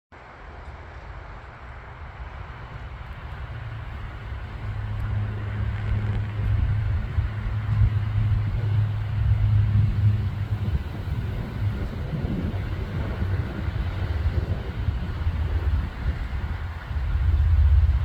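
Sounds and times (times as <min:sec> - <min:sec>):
passing vehicle engine hum: 0:00.2 - 0:18.0.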